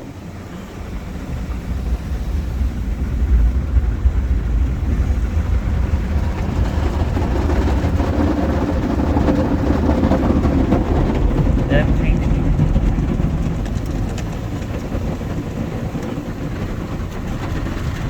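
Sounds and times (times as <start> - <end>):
car wash machine rumbling: 0.0 - 18.0.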